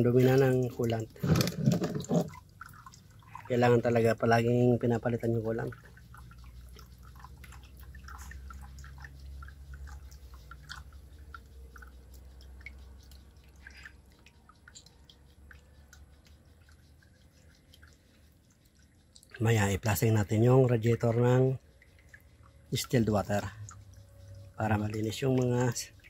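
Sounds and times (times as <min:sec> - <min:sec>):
coolant dripping into tub: 0:00.0 - 0:26.0.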